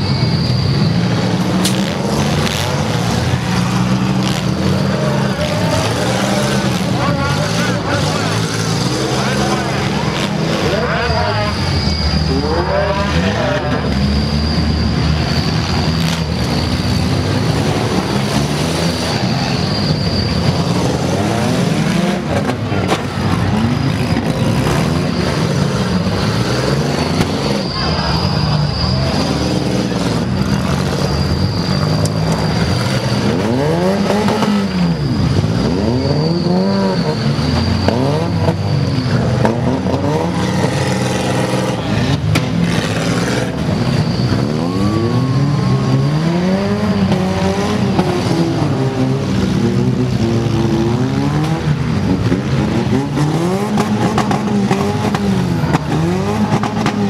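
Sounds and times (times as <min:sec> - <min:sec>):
car engines revving: 0:00.0 - 0:57.0
cars ramming: 0:00.0 - 0:57.0.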